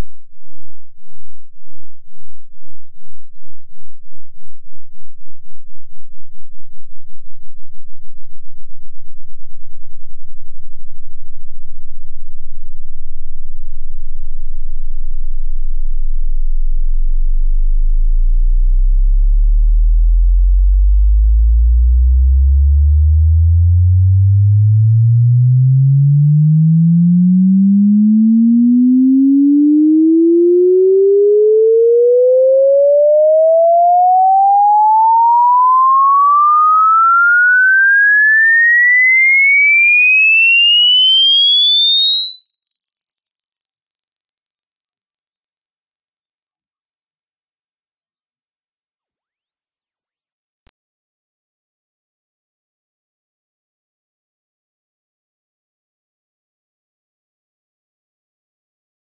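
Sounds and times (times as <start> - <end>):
rising sine tone sweep: 0.9 - 39.1, 39.7 - 49.1.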